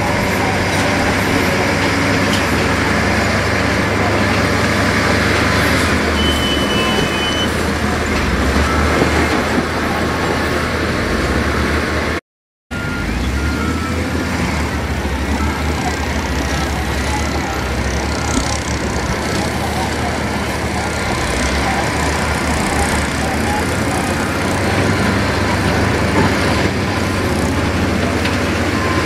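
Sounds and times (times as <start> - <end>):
diesel engines running under load: 0.0 - 29.0.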